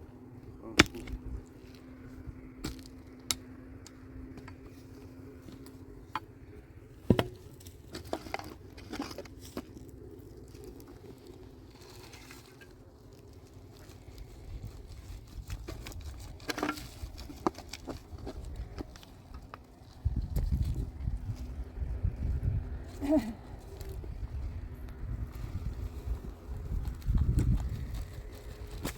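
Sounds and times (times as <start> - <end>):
small knocks clicks and scrapes: 0.8 - 21.6, 24.8 - 28.9.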